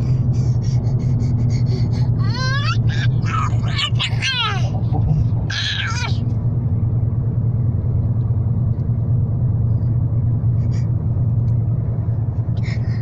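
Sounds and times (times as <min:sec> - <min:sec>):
road rumble inside car: 0:00.0 - 0:13.0.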